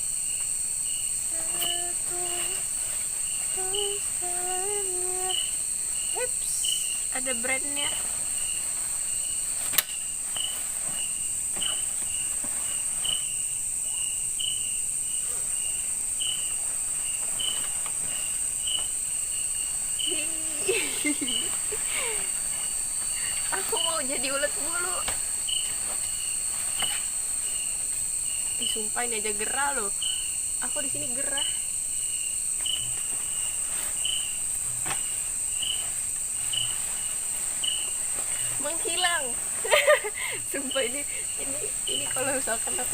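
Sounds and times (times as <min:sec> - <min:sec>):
high-pitched insect drone: 0:00.0 - 0:42.9
insect chirping: 0:00.0 - 0:42.9.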